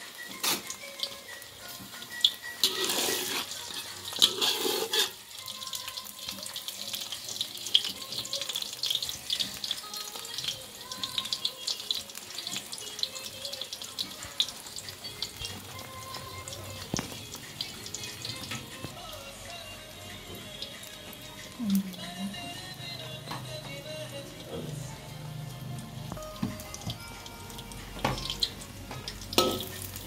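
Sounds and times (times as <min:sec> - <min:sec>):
egg sizzling in hot oil: 0:00.0 - 0:21.9, 0:24.8 - 0:30.0.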